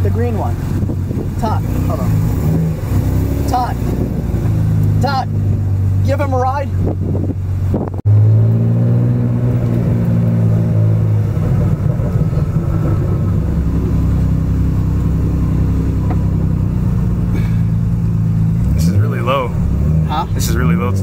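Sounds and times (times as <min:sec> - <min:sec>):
car engine idling: 0:00.0 - 0:08.6, 0:09.2 - 0:21.0.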